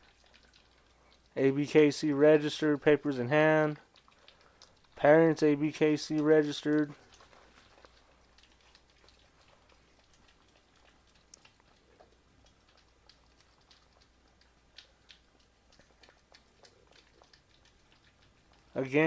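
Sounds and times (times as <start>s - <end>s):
faint small clicks and ticks: 0.0s - 19.0s.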